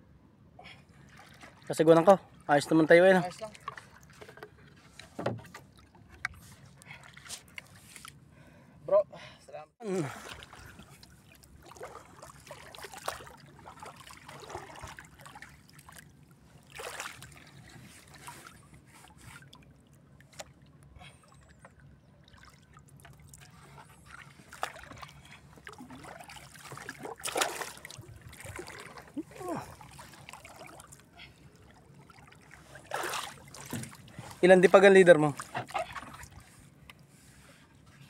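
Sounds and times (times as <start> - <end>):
water lapping against boat hull: 0.7 - 8.6, 9.8 - 38.0
water splashes: 1.0 - 6.2, 9.8 - 36.7.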